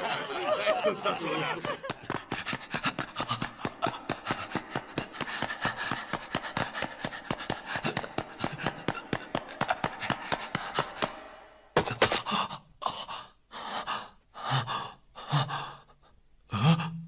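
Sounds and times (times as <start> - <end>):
man panting rapidly: 1.9 - 11.2, 12.0 - 17.0.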